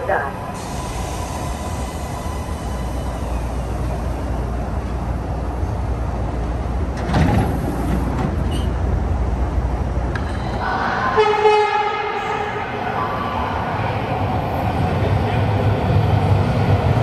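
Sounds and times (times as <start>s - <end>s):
train rumbling into station: 0.0s - 17.0s.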